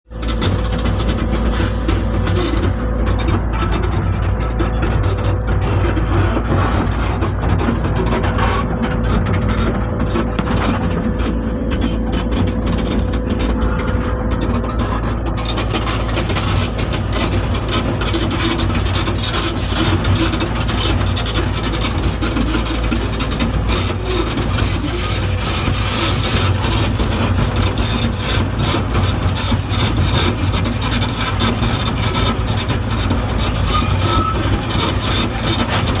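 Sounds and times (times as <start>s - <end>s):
excavator diesel engine running: 0.1s - 36.0s
rasping scraping noise: 0.1s - 36.0s.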